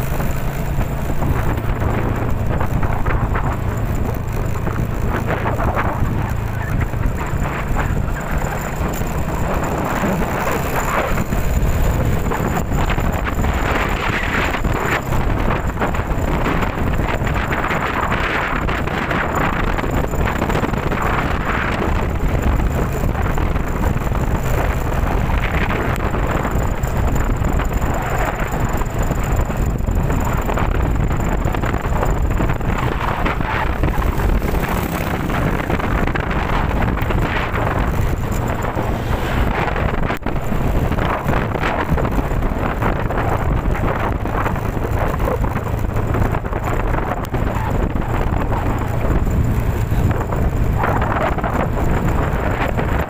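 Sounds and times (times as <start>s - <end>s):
strong wind blowing: 0.0s - 53.0s
wind buffeting microphone: 0.0s - 53.0s.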